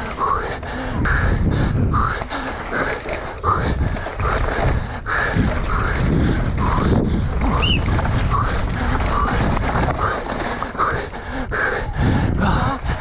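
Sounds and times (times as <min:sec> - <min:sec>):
person panting heavily: 0:00.0 - 0:13.0
tyre and frame rumble: 0:00.0 - 0:13.0
wind on microphone: 0:00.7 - 0:13.0.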